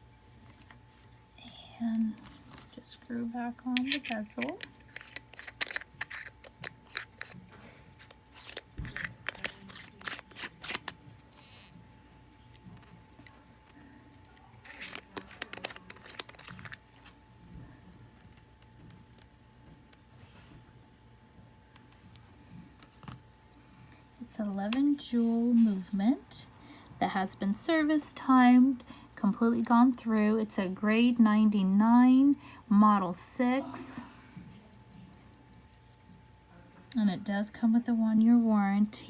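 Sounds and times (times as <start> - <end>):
faint watch ticking: 0.0 - 39.0
small metallic clicks and scrapes: 0.0 - 39.0.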